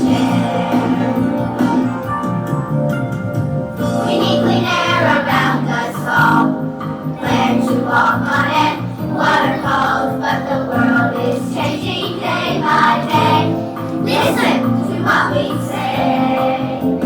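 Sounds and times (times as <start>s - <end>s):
group of voices singing: 0.0s - 2.3s, 4.1s - 17.0s
instrumental accompaniment: 0.0s - 17.0s.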